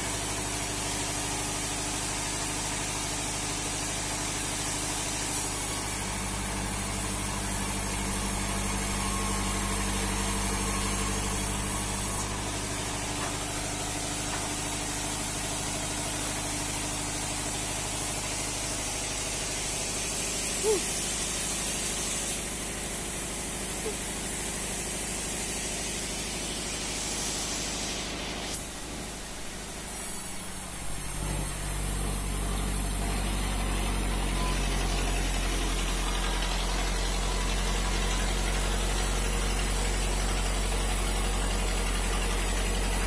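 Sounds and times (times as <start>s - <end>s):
engine idling: 0.1s - 27.0s, 27.6s - 43.0s.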